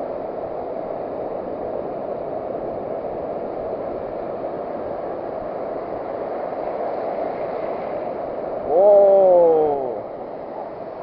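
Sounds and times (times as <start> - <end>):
beach surf rushing: 0.0 - 11.0.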